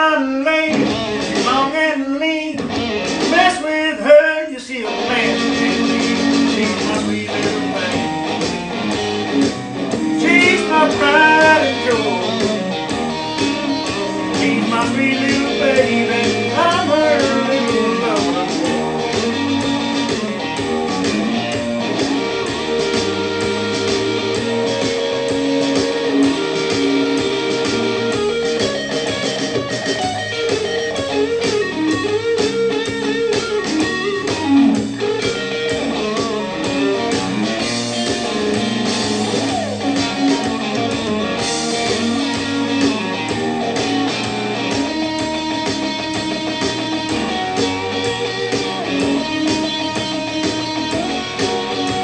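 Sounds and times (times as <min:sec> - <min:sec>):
blues guitar with string bends: 0:00.0 - 0:52.0
sustained guitar notes: 0:00.0 - 0:52.0.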